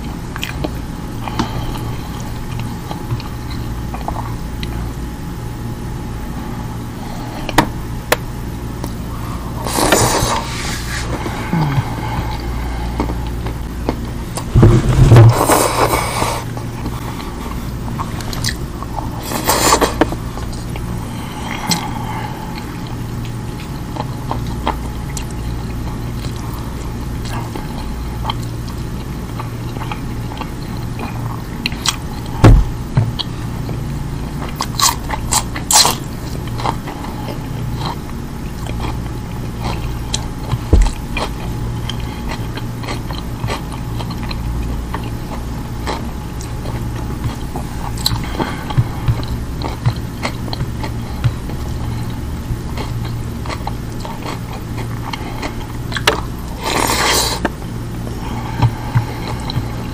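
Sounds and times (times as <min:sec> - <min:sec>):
chewing and biting food: 0:00.0 - 0:04.8, 0:11.1 - 0:59.9
steady low hum: 0:00.0 - 0:59.9.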